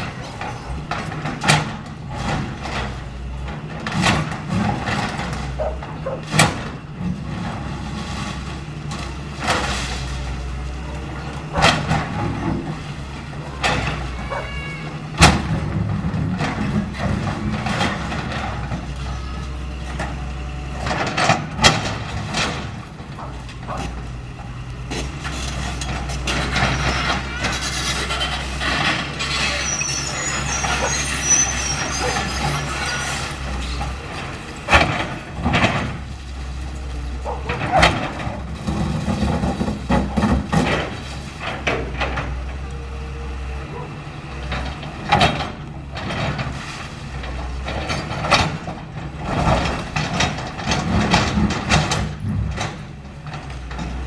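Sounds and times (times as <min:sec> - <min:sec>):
debris clattering and crunching: 0:00.0 - 0:43.1, 0:43.7 - 0:54.0
excavator diesel engine running: 0:00.0 - 0:54.0.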